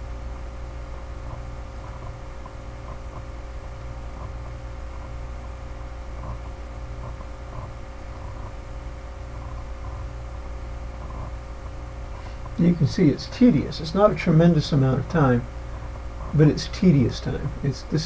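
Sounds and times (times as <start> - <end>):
electrical hum and hiss: 0.0 - 18.0.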